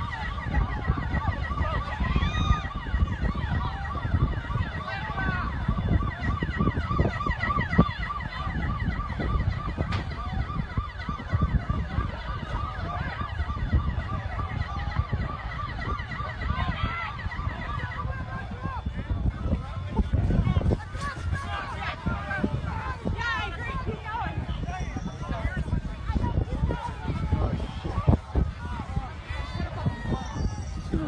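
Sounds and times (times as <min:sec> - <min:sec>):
siren yelping: 0:00.0 - 0:31.0.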